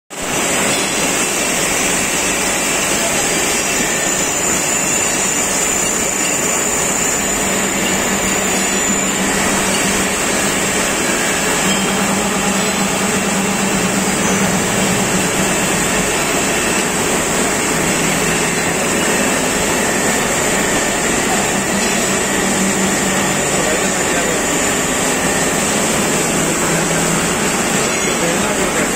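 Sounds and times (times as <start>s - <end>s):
thin high whine: 2.2s - 28.9s.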